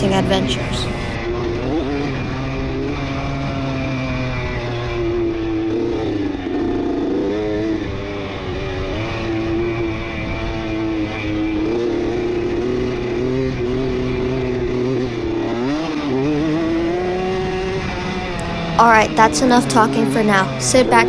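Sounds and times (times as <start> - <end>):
two-stroke engine running hard: 0.0 - 21.0.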